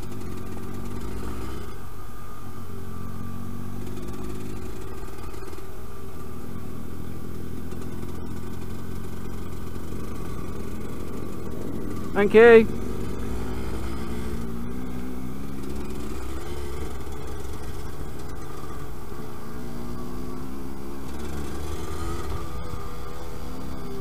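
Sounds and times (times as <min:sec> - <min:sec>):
two-stroke motorcycle engine revving: 0:00.0 - 0:24.0
wind and riding noise: 0:00.0 - 0:24.0.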